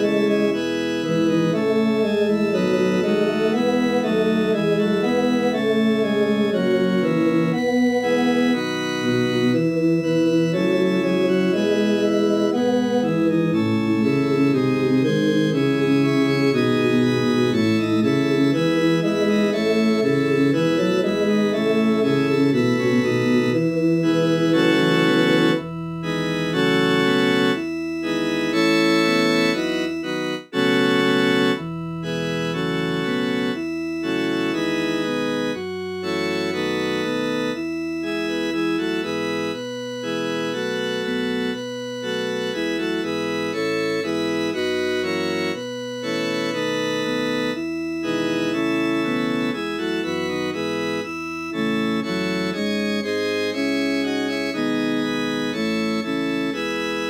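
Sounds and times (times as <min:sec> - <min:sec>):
organ playing hymn chords: 0:00.0 - 0:57.0.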